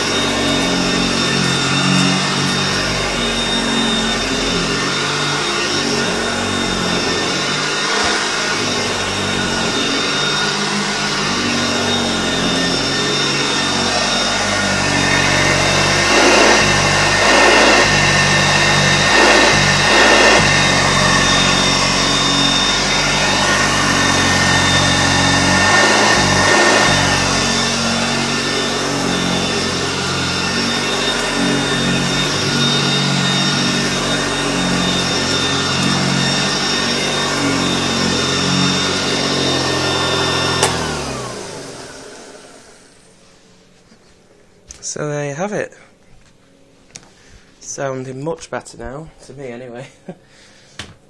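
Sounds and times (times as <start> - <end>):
vacuum rushing noise: 0.0 - 43.1
vacuum cleaner motor whine: 0.0 - 45.0.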